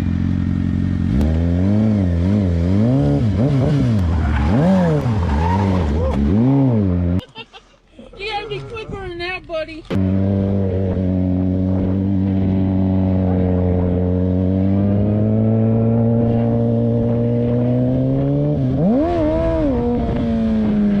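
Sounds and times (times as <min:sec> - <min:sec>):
motorcycle engine revving: 0:00.0 - 0:07.2, 0:09.9 - 0:21.0.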